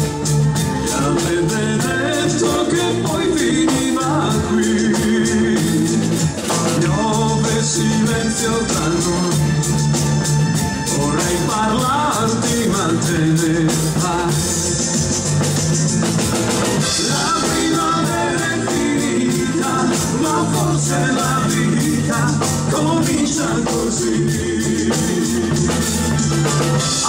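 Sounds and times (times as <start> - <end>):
live band playing cumbia: 0.0 - 27.0
man singing into microphone: 0.9 - 9.7, 10.8 - 14.9, 16.9 - 26.0.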